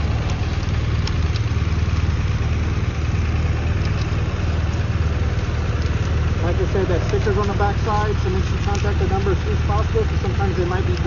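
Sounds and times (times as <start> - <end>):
car engine idling loudly: 0.0 - 11.0.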